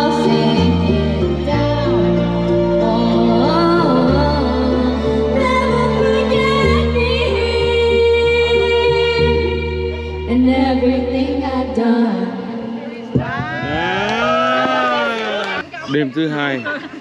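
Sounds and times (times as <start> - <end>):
song with vocal and bass line: 0.0 - 15.7.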